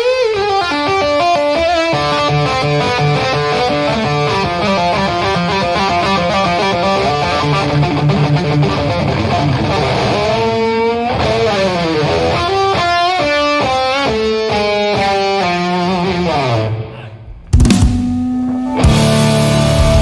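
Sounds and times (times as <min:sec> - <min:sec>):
electric guitar solo: 0:00.0 - 0:20.0
rock band playing: 0:00.0 - 0:20.0.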